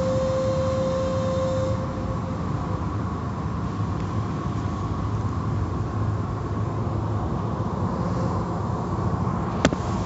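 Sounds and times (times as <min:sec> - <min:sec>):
car wash machinery rumble: 0:00.0 - 0:10.0.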